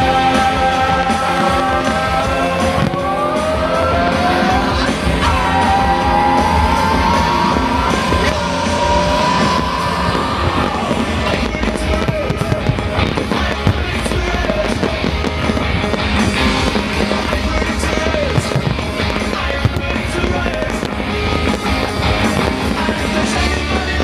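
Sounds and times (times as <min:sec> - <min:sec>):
fireworks popping and crackling: 0:00.0 - 0:24.0
show soundtrack music: 0:00.0 - 0:24.0.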